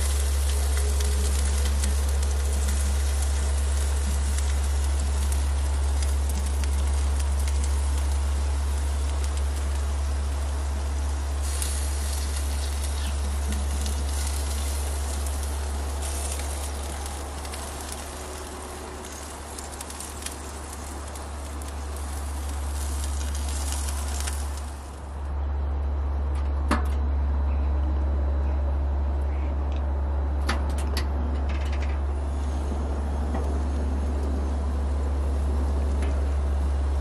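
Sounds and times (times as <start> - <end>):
food sizzling over charcoal: 0.0 - 25.2, 31.4 - 37.0
steady low hum: 0.0 - 37.0.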